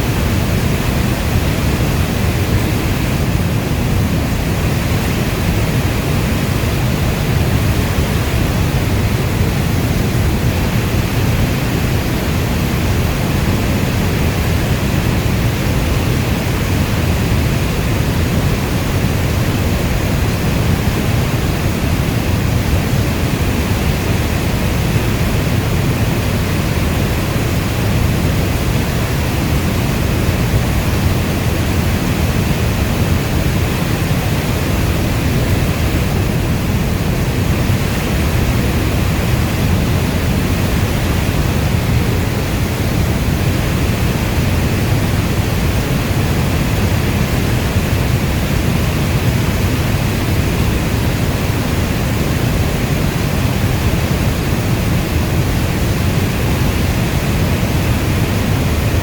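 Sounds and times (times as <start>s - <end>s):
heavy rainstorm: 0.0s - 59.0s.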